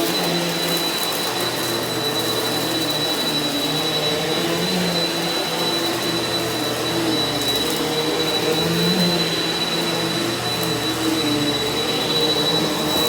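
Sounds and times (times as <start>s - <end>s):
upright vacuum cleaner running: 0.0s - 13.0s.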